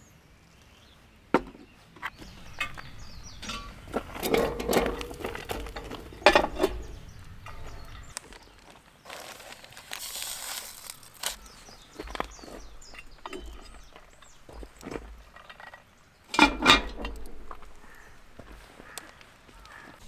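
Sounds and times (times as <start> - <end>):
knocks and handling noises: 2.2 - 8.2, 9.1 - 19.9.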